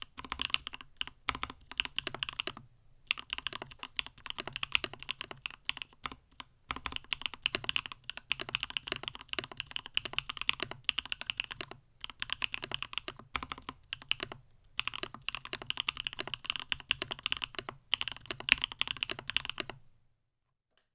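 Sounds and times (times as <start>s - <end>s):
fast typing on mechanical keyboard: 0.0s - 19.8s.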